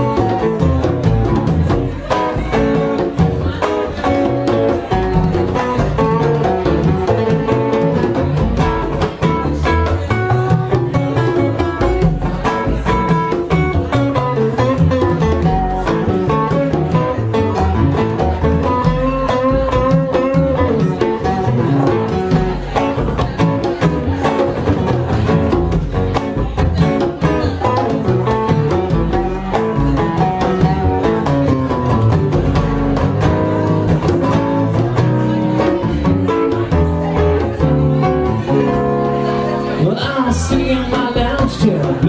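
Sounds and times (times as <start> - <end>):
bass guitar: 0.0 - 42.0
congas: 0.0 - 42.0
guitar lead melody: 0.0 - 42.0.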